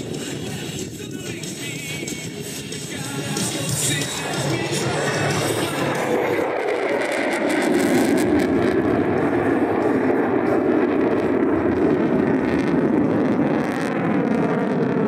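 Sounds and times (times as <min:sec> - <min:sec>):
fighter jet afterburner roar: 0:00.0 - 0:15.0.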